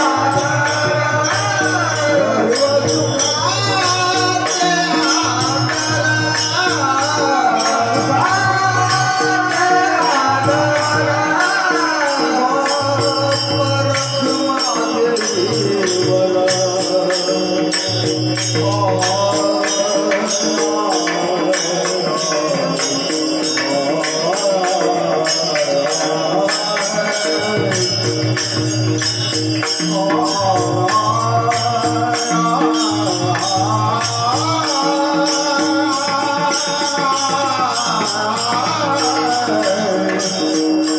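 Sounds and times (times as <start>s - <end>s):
solo voice singing: 0.0s - 28.6s, 29.9s - 40.9s
jingling percussion: 0.0s - 40.9s.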